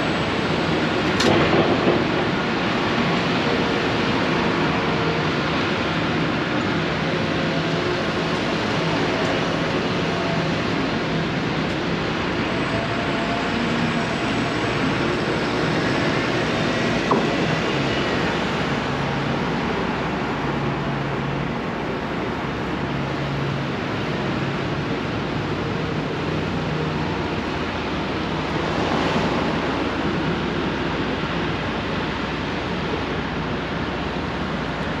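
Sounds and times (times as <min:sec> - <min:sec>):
road traffic noise: 0:00.0 - 0:35.0.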